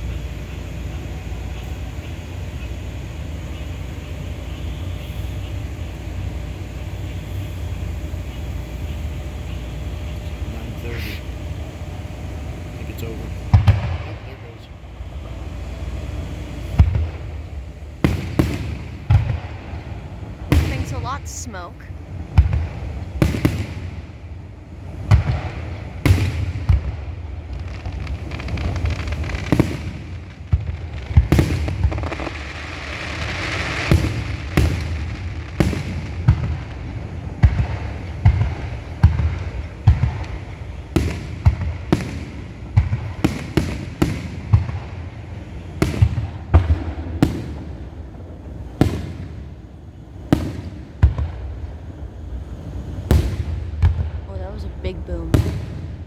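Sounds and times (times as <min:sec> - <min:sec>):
firework shells bursting: 0:00.0 - 0:56.0
fireworks crackling: 0:00.0 - 0:56.0
low rumbling echo: 0:03.7 - 0:56.0.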